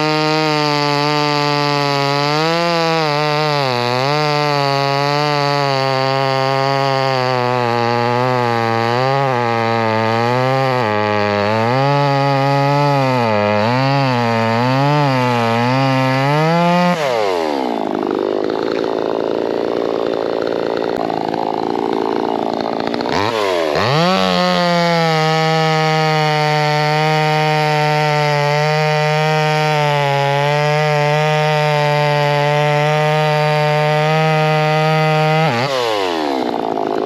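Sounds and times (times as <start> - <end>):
chainsaw cutting wood: 0.0 - 37.0
chainsaw revving: 0.0 - 37.0.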